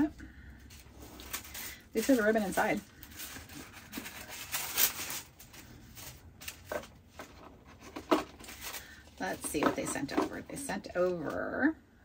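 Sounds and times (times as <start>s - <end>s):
paper and cardboard rustling: 0.7s - 11.4s.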